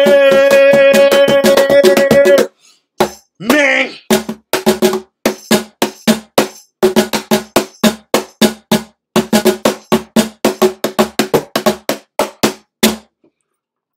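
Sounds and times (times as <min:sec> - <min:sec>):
cajon played by hand: 0:00.0 - 0:13.1.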